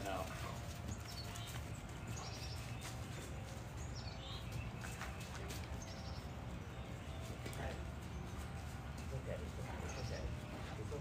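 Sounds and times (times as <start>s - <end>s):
dogs scuffling: 0.0s - 11.0s.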